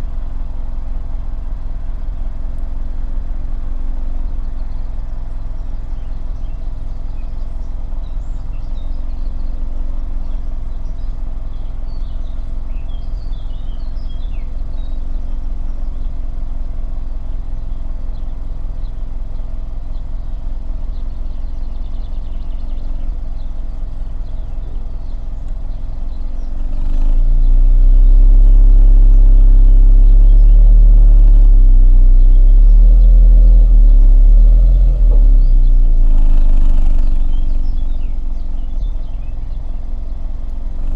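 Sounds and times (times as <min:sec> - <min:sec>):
car engine idling and revving: 0:00.0 - 0:40.9
birds chirping: 0:04.2 - 0:40.9.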